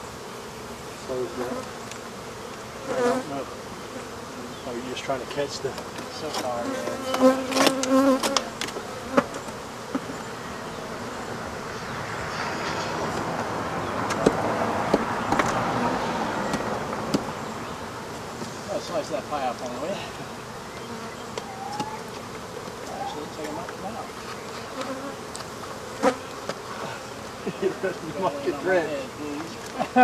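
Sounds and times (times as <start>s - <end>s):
honey bees buzzing: 0.0s - 30.0s.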